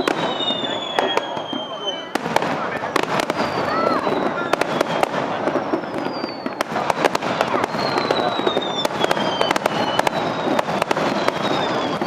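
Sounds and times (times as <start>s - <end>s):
high whistles gliding downward: 0.0s - 2.1s, 3.2s - 6.6s, 7.5s - 12.0s
fireworks bangs and crackles: 0.0s - 12.0s.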